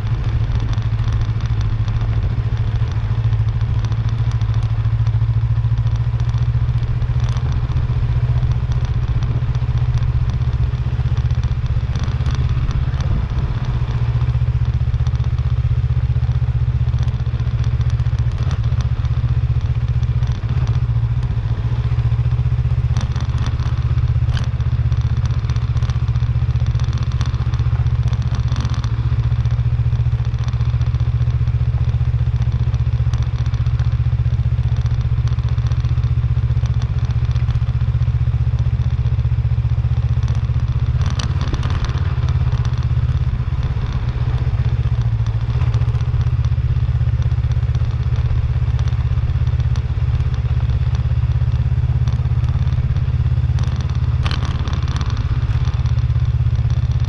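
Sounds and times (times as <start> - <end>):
gravel crackling under tyres: 0.0 - 57.0
motorcycle engine running: 0.0 - 57.0.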